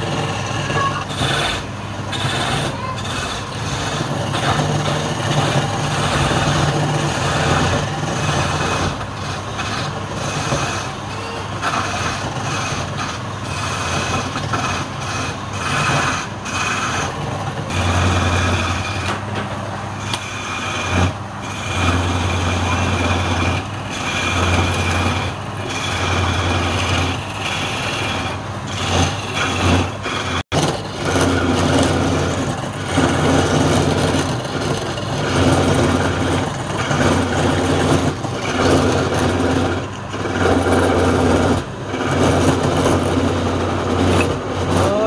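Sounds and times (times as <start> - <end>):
chisel cutting spinning wood: 0.0 - 45.0
lathe motor hum: 0.0 - 45.0.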